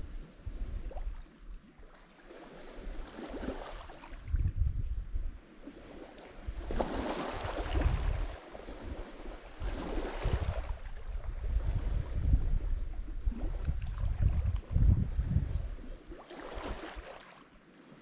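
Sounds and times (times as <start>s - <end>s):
wind buffeting microphone: 0.0s - 1.2s, 2.7s - 17.1s
waves breaking on shore: 0.0s - 4.4s, 5.3s - 18.0s.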